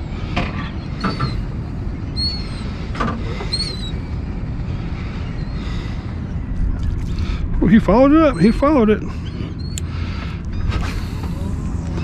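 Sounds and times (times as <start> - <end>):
wind rumbling on microphone: 0.0 - 12.0
seabird calls: 0.1 - 11.6.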